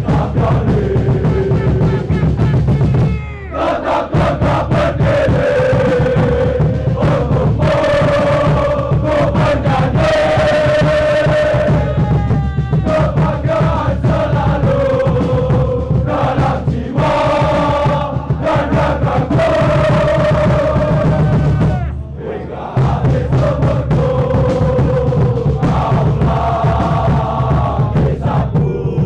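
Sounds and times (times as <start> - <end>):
crowd singing a chant: 0.0 - 29.0.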